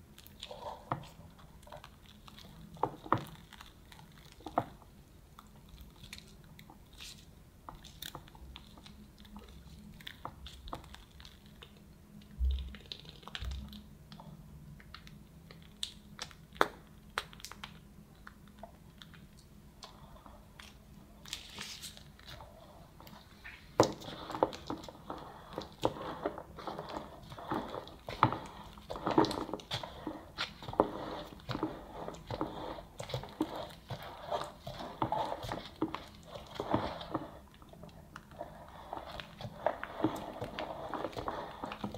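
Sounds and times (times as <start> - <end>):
cream squished from piping bag: 0.0 - 41.9.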